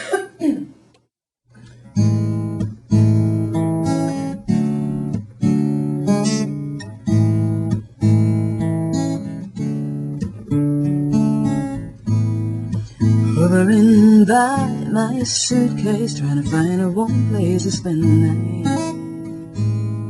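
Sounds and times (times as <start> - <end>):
acoustic guitar strummed slowly: 1.5 - 20.0.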